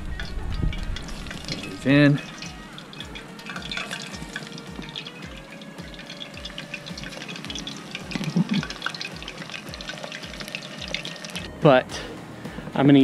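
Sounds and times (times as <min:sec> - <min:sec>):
food deep-frying in oil: 0:00.0 - 0:11.6.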